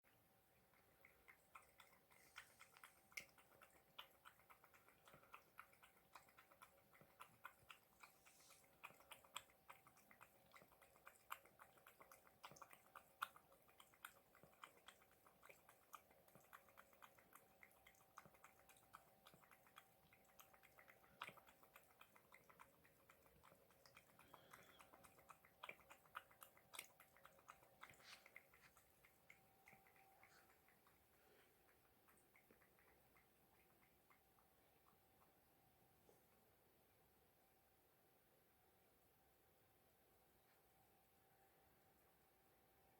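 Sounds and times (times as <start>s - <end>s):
cat lapping water: 0.1s - 37.3s
faint steady hum: 0.1s - 42.9s.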